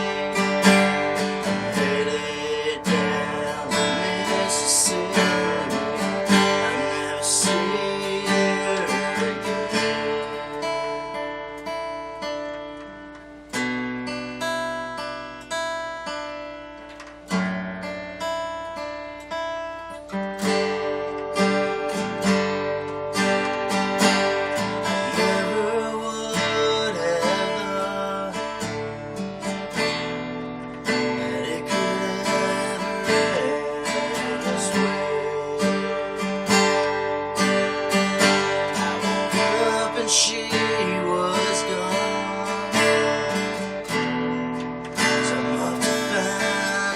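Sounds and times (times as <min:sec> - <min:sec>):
country guitar strumming: 0:00.0 - 0:46.9.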